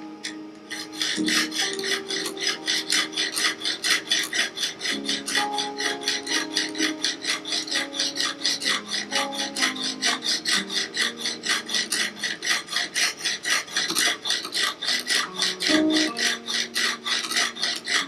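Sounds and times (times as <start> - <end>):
hone rasping along knife blade: 0.1 - 18.0.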